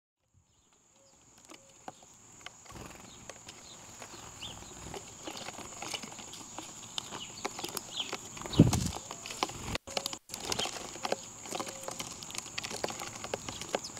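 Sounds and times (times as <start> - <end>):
birds pecking taps: 0.6 - 13.9.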